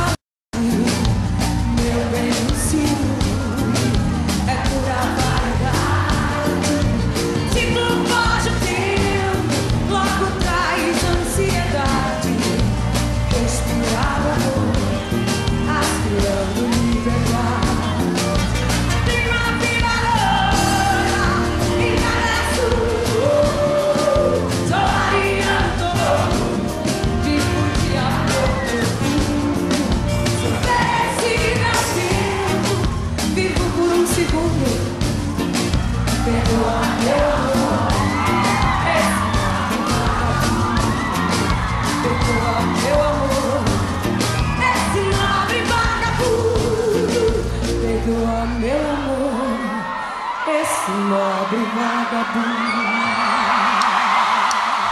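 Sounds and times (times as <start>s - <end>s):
live pop band playing: 0.0s - 54.9s
crowd yelling and whooping: 0.6s - 54.9s.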